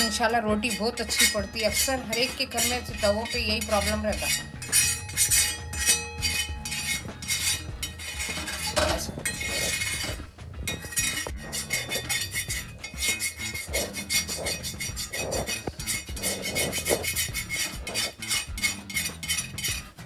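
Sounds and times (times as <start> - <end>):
knife scraping on iron griddle: 0.0 - 20.0.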